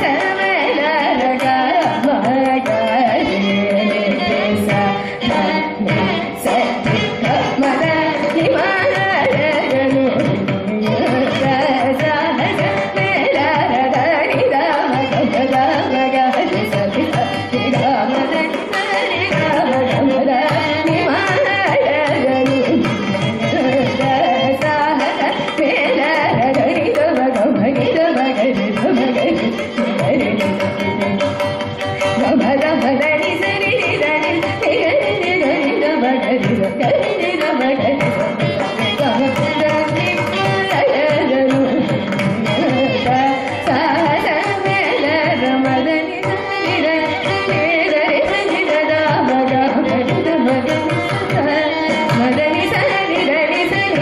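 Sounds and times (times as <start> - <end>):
violin: 0.0 - 54.0
woman singing: 0.0 - 54.0.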